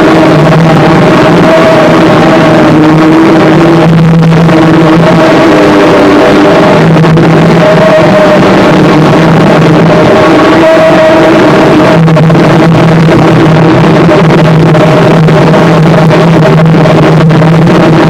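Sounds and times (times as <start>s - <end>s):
distorted noise wall: 0.0s - 18.0s
low droning tones: 0.0s - 18.0s.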